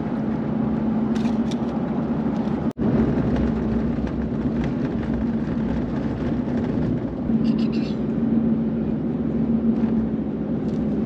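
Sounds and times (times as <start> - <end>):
engine hum: 0.0 - 11.0
road noise inside vehicle: 0.0 - 11.0.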